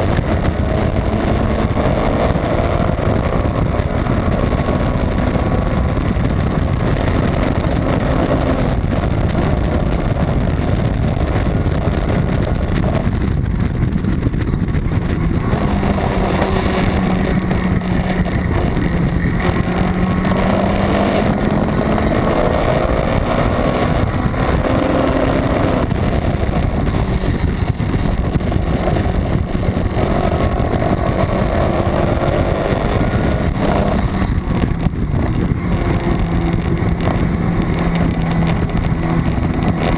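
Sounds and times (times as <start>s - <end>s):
race car engine revving: 0.0s - 39.9s
road and wind noise: 0.0s - 39.9s.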